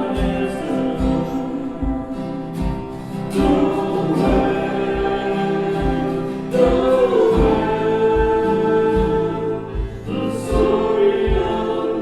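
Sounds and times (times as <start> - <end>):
kick drum beat: 0.0 - 12.0
voices singing held notes: 0.0 - 12.0
worship band playing: 0.0 - 12.0.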